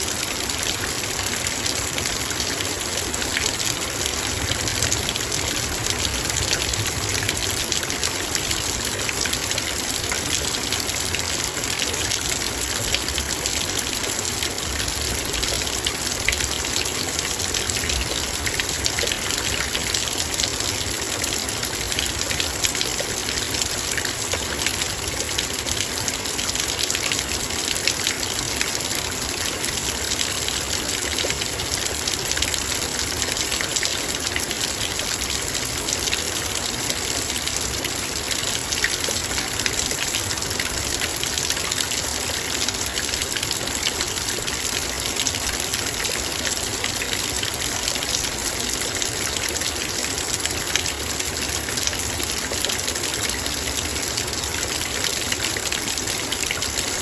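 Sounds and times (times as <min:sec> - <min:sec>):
heavy rain on a metal bowl: 0:00.0 - 0:57.0.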